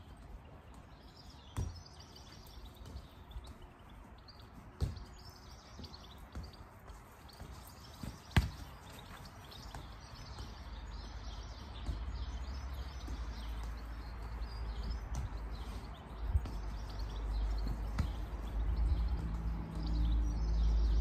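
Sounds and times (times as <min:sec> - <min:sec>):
birds chirping: 0:00.0 - 0:21.0
football kicked on grass: 0:00.1 - 0:20.2.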